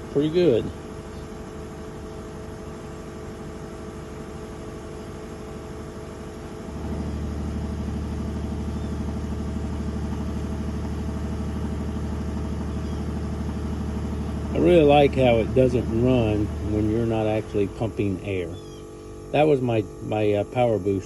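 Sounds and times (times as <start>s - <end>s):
air compressor running: 0.0s - 21.0s
car engine idling: 0.0s - 21.0s.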